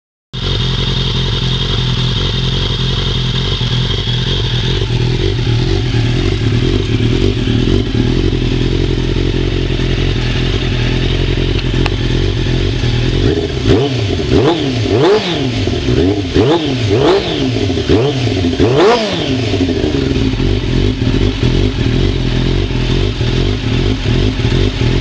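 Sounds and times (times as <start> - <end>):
motorcycle engine idling: 0.4 - 25.0.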